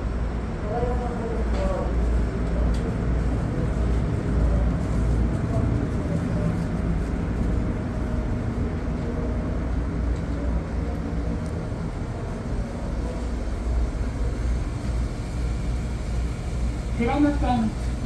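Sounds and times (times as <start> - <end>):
railcar engine humming: 0.0 - 18.0.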